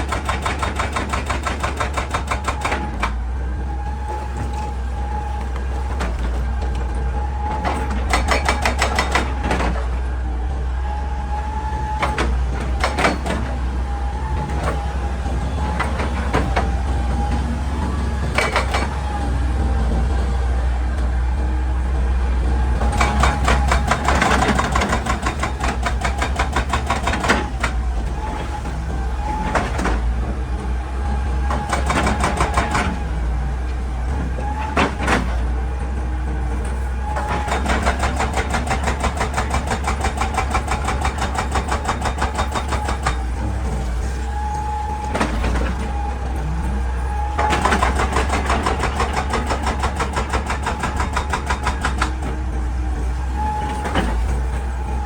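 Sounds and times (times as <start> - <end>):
hydraulic breaker hammering rock: 0.0 - 10.0, 11.3 - 20.0, 22.4 - 30.4, 31.1 - 55.0
excavator engine droning: 0.0 - 55.0.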